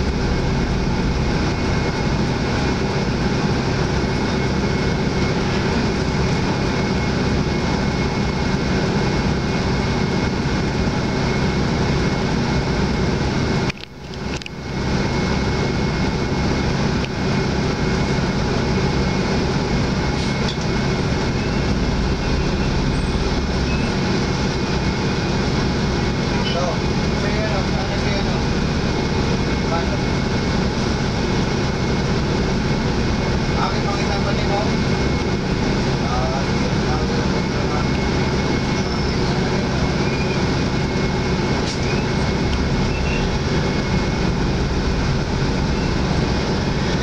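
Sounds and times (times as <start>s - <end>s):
diesel engine low hum: 0.0s - 47.0s.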